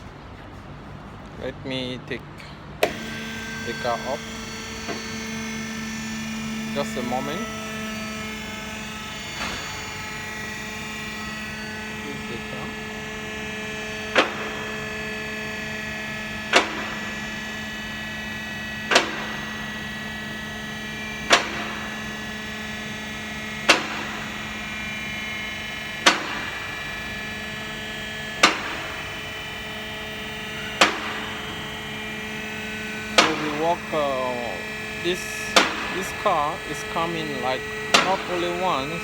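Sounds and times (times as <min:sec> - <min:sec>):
lift pump motor humming: 0:00.0 - 0:39.0.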